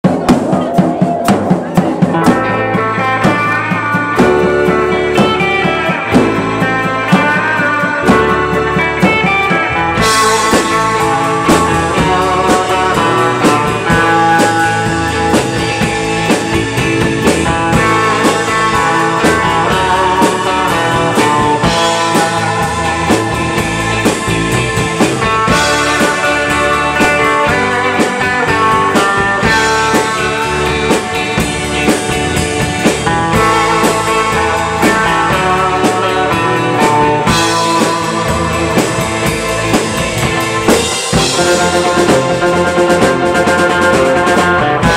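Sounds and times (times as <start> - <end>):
drum beat: 0.0 - 44.9
keyboards: 0.0 - 44.9
lead electric guitar: 0.0 - 44.9
second electric guitar: 0.0 - 44.9.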